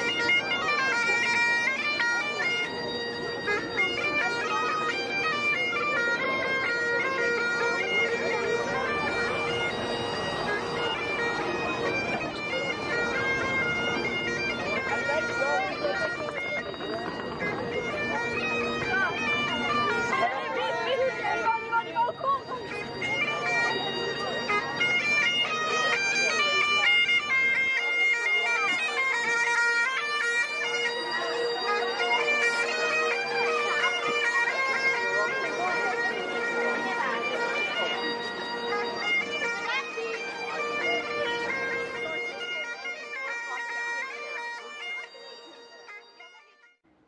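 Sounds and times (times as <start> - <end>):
bagpipes playing a tune: 0.0 - 47.0
people chattering: 0.0 - 47.0.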